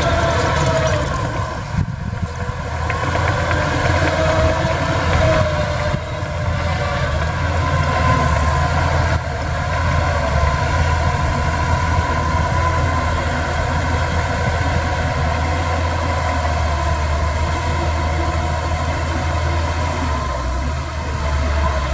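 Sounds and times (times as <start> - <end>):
diesel engine deep hum: 0.0 - 21.9.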